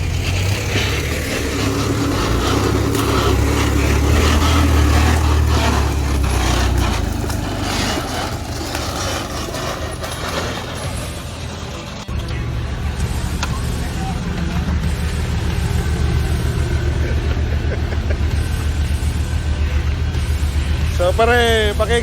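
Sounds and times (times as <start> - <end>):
vehicle engine running under load: 0.0 - 22.0.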